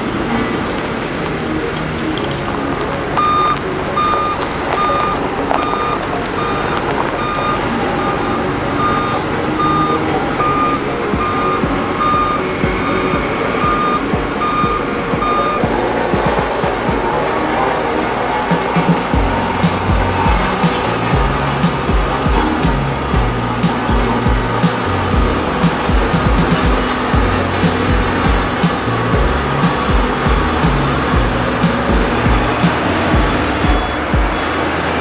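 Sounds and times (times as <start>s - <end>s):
diesel engine running: 0.0s - 35.0s
back-up alarm beeping: 0.8s - 35.0s.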